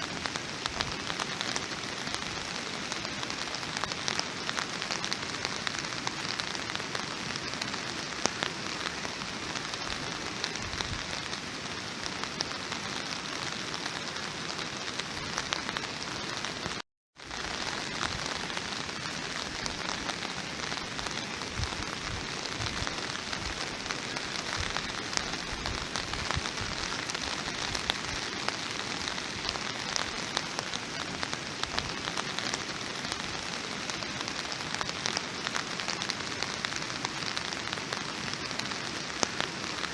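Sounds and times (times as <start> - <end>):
steady rain with ticking drops: 0.0 - 39.9.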